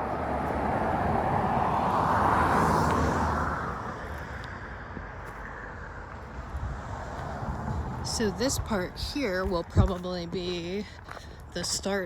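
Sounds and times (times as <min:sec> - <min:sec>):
road vehicle passing by: 0:00.0 - 0:09.7.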